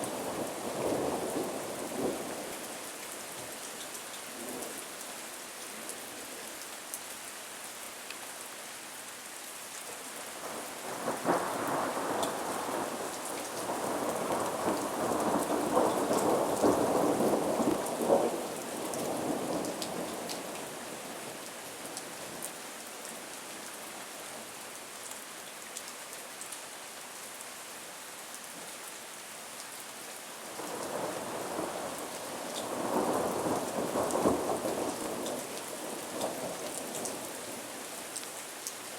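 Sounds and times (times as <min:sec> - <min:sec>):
rain hiss: 0:00.0 - 0:38.9.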